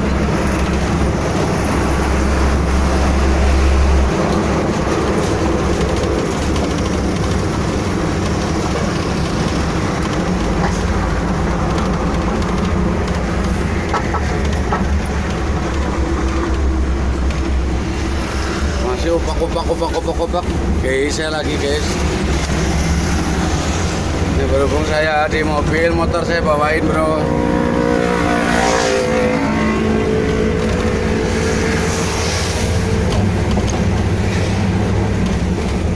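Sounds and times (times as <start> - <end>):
low engine hum: 0.0 - 35.9
vehicle road noise: 0.0 - 35.9.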